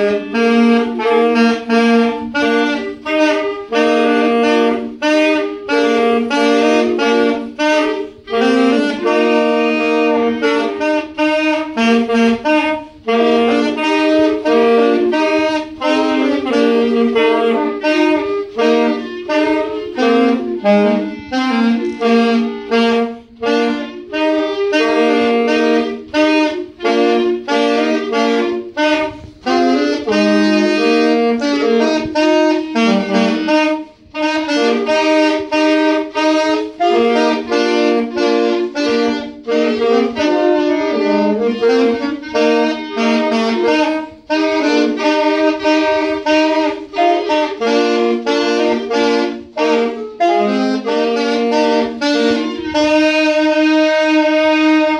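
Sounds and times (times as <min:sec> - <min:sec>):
saxophones and clarinets playing: 0:00.0 - 0:54.9.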